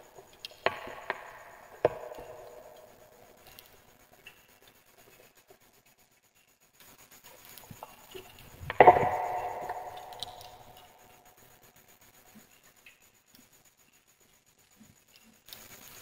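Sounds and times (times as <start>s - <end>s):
faint crackles: 0.0s - 16.0s.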